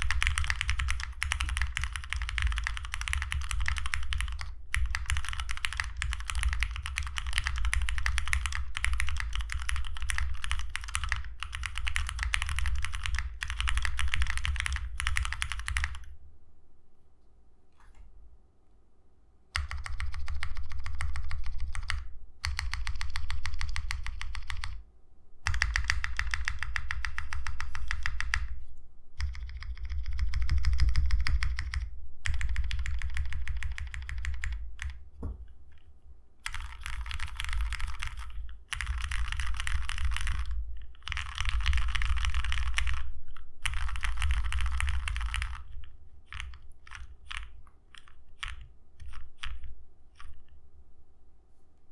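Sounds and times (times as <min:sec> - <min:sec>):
fast typing on mechanical keyboard: 0:00.0 - 0:16.1, 0:19.6 - 0:24.8, 0:25.4 - 0:28.6, 0:29.2 - 0:35.0, 0:36.4 - 0:50.5.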